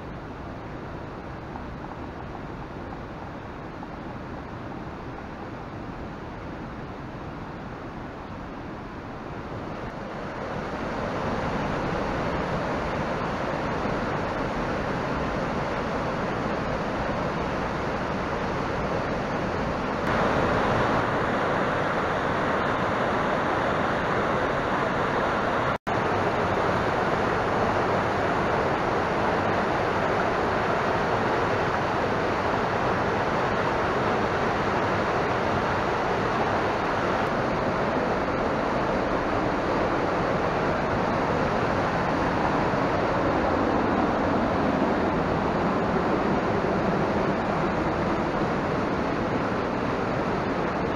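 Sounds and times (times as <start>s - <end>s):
mountain stream rushing over boulders: 0.0s - 50.9s.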